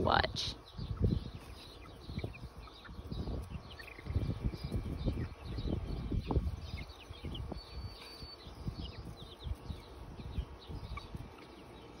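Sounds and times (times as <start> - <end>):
birds chirping: 0.0 - 12.0
low rumbling on microphone: 0.6 - 11.3.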